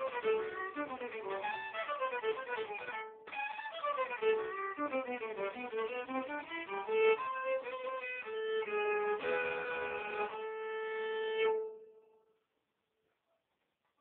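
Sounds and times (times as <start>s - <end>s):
solo fiddle playing: 0.0s - 12.2s.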